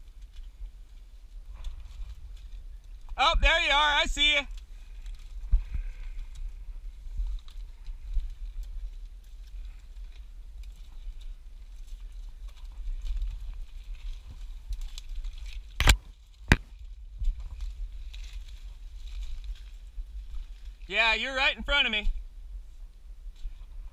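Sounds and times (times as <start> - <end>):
branches rustling and scraping: 0.0 - 23.9.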